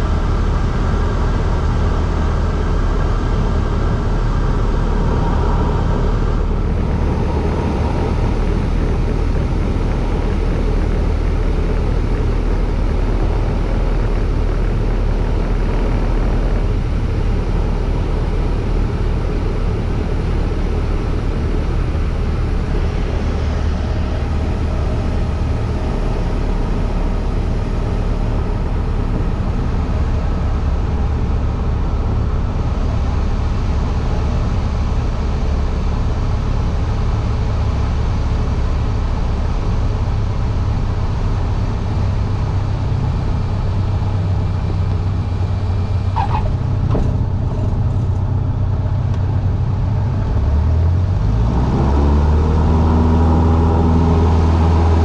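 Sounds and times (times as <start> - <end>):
light aircraft engine droning: 0.0 - 55.0
rushing wind: 0.0 - 55.0.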